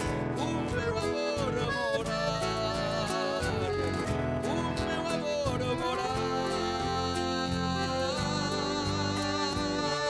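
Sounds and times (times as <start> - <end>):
acoustic-electric guitar: 0.0 - 10.0
man singing with vibrato: 0.0 - 10.0.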